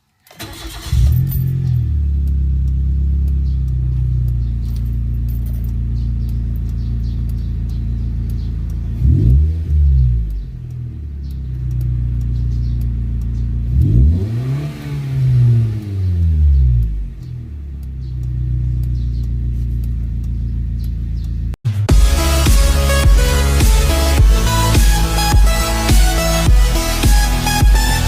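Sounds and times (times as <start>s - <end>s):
car engine idling and revving: 0.4s - 28.0s.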